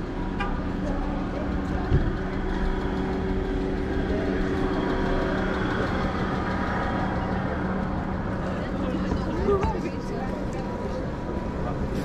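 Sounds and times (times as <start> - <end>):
faint voices of passers-by: 0.0 - 12.0
low mechanical hum: 0.0 - 12.0
pedestrian street noise: 0.0 - 12.0.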